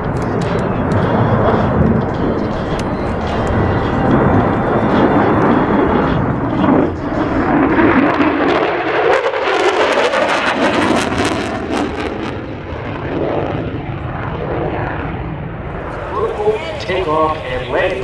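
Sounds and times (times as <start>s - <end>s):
fighter jet roar flying past: 0.0s - 18.0s.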